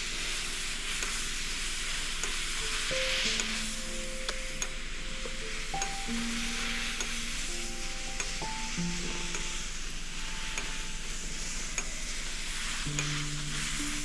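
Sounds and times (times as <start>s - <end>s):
soft background music: 0.0s - 14.0s
wood lathe spinning with hiss: 0.0s - 14.0s.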